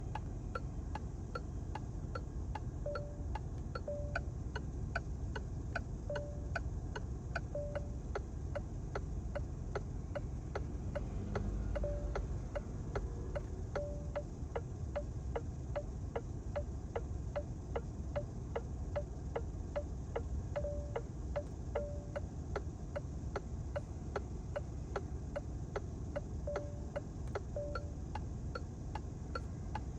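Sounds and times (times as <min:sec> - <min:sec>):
low steady rumble: 0:00.0 - 0:29.9
turn signal ticking: 0:00.0 - 0:29.9.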